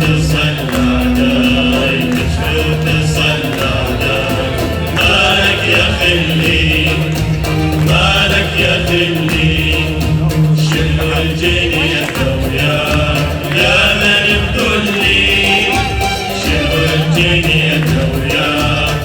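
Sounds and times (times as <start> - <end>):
low musical accompaniment: 0.0 - 19.0
percussion strokes: 0.0 - 19.0
person singing: 0.0 - 19.0.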